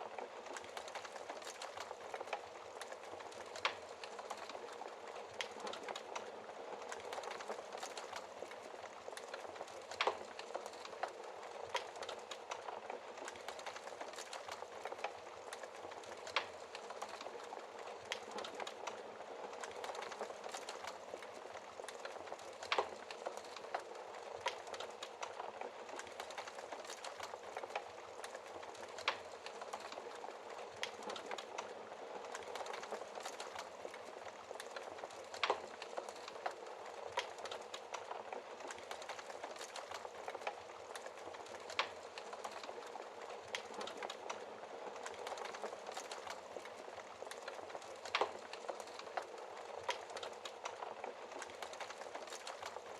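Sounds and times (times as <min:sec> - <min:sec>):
wood fire crackling: 0:00.0 - 0:52.9
fire popping: 0:00.1 - 0:52.9.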